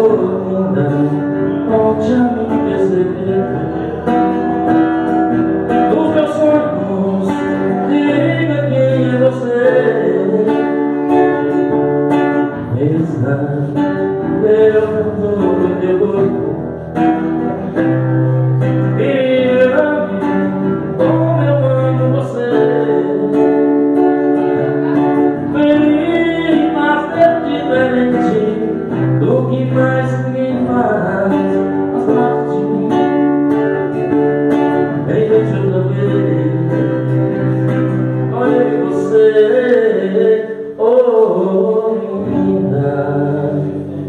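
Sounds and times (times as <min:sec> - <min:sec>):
acoustic guitar strumming: 0:00.0 - 0:44.0
man singing into microphone: 0:00.0 - 0:44.0.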